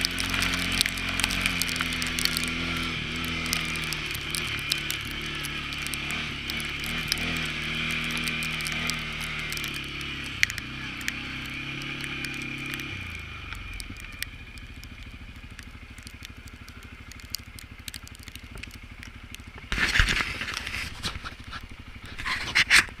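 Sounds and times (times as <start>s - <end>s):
atv engine idling: 0.0s - 23.0s
loud rustling crackling noise: 0.0s - 23.0s.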